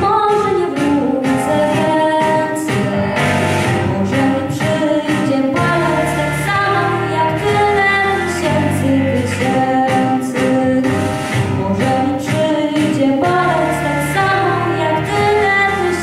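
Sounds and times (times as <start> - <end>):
girl singing into microphone: 0.0 - 16.0
instrumental accompaniment with bass: 0.0 - 16.0.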